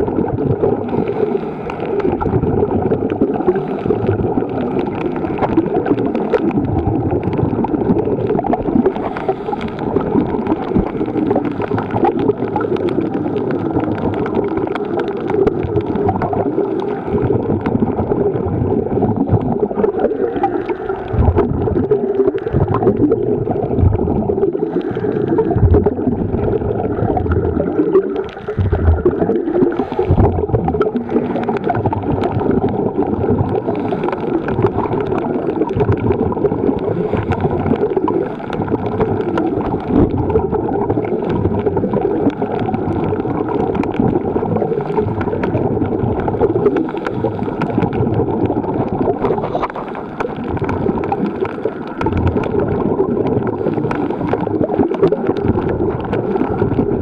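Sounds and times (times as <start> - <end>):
small crackles: 0.0 - 57.0
underwater bubbling and rushing: 0.0 - 57.0.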